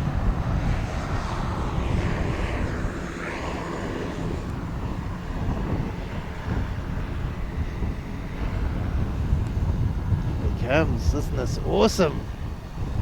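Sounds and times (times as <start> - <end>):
jet engines rushing: 0.0 - 13.0
wind buffeting microphone: 0.0 - 13.0.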